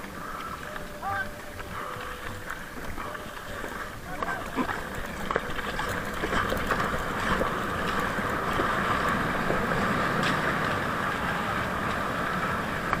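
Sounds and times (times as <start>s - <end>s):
water rushing along a hull: 0.0s - 13.0s.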